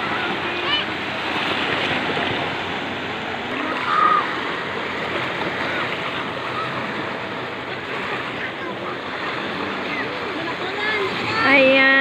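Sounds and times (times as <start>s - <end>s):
sea waves surging: 0.0s - 12.0s.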